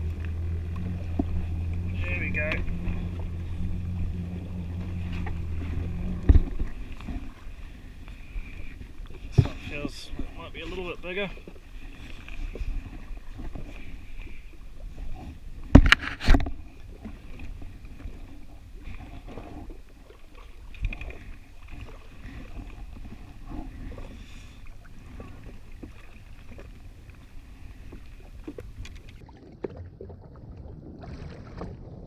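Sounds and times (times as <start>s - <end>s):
jet ski engine running: 0.0s - 29.2s.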